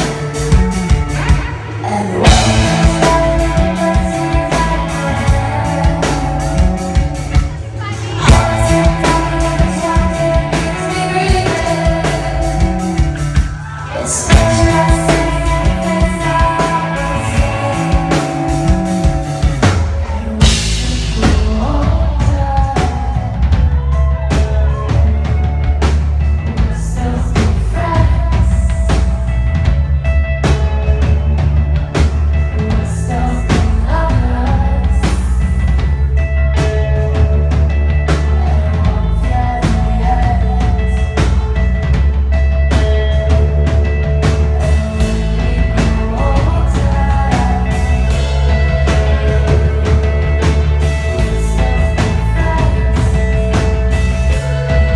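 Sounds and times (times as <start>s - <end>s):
woman singing lead vocal: 0.0s - 25.1s, 26.4s - 29.6s, 32.5s - 54.9s
bass guitar: 0.0s - 54.9s
drum kit: 0.0s - 54.9s
electric guitars: 0.0s - 54.9s.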